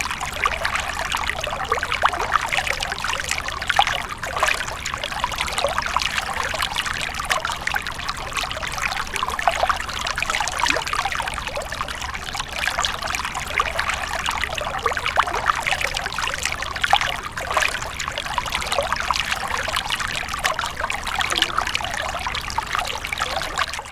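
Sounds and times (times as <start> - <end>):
stream of water splashing: 0.0 - 23.9.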